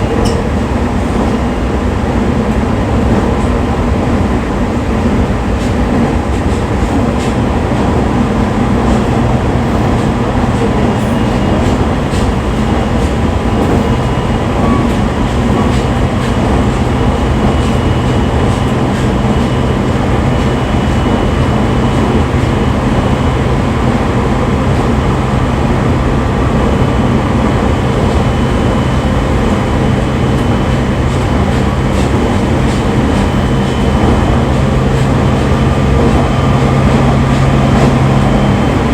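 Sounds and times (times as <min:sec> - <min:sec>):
train rumbling inside carriage: 0:00.0 - 0:38.9.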